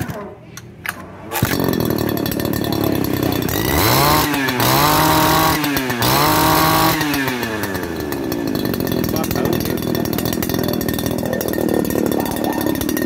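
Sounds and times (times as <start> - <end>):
two-stroke engine revving: 1.2 - 13.0.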